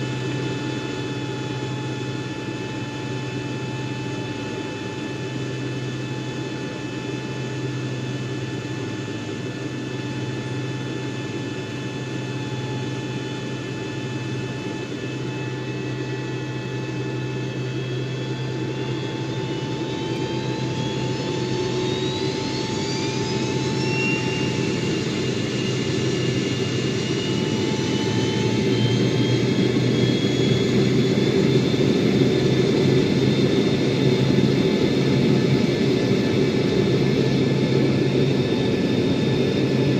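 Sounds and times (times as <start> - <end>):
jet engine rumble: 0.0 - 39.9
jet engines whining: 0.0 - 39.9.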